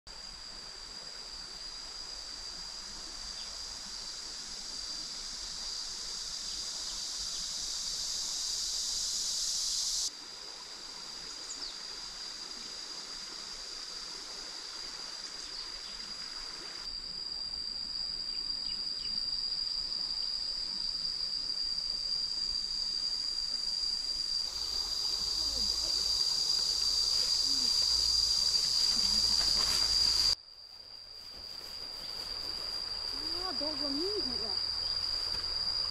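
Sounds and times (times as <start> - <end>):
insects droning: 0.1 - 35.9.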